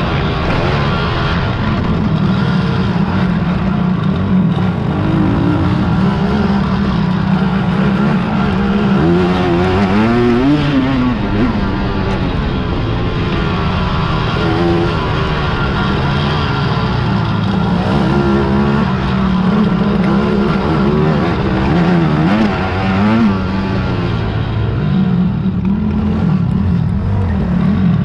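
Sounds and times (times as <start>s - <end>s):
engine revving up and down: 0.0s - 28.0s
quad engines running hard: 0.0s - 28.0s.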